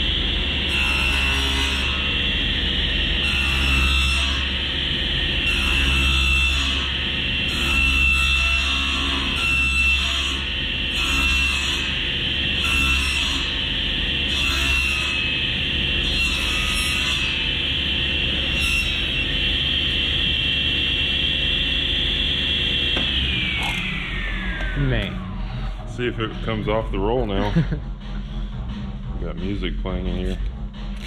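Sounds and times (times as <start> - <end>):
table saw whining: 0.0 - 26.8.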